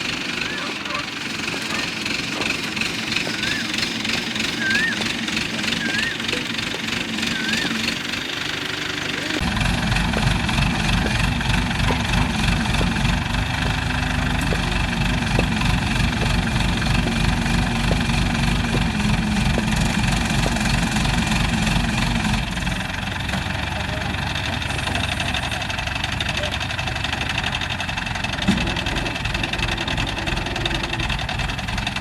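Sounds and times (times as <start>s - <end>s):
heavy engine idling: 0.0s - 32.0s.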